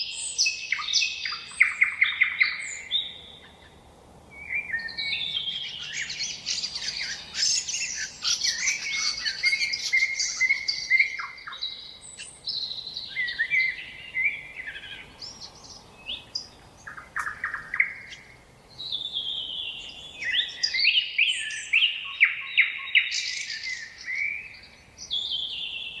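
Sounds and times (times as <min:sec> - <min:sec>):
nightingale singing: 0:00.0 - 0:26.0.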